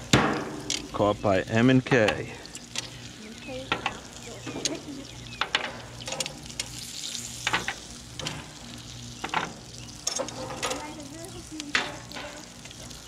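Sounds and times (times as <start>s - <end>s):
hot grill sizzling: 0.0s - 13.0s.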